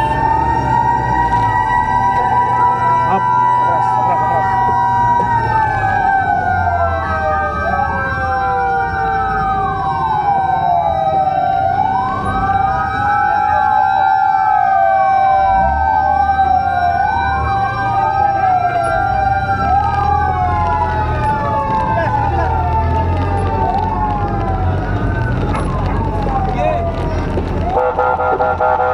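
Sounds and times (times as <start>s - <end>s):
fire truck sirens wailing: 0.0s - 28.9s.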